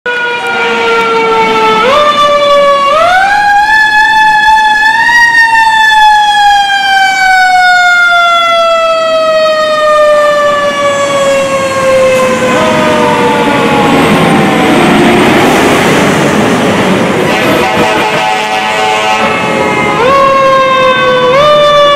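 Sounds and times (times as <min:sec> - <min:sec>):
fire truck siren wailing: 0:00.0 - 0:21.9
fire truck rumbling past: 0:00.1 - 0:21.9.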